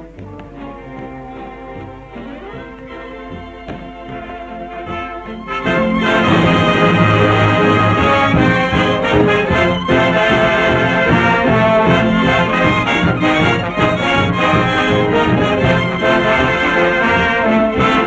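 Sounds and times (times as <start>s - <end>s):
orchestra playing with brass: 0.0s - 18.0s.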